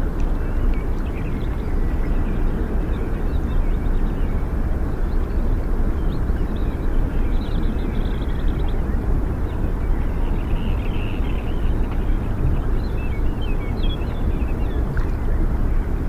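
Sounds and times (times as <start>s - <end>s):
low rumbling outdoor ambience: 0.0s - 16.0s.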